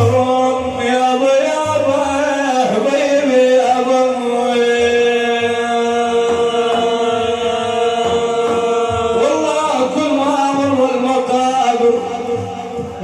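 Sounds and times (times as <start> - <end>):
man singing a chant: 0.0 - 13.0
soft low drum beats: 1.6 - 13.0.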